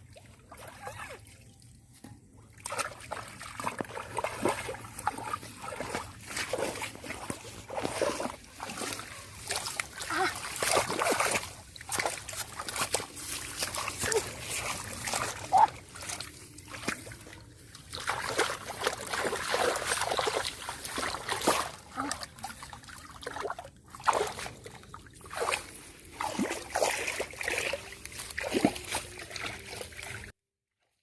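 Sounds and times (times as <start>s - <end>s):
shallow water splashing: 2.5s - 30.3s.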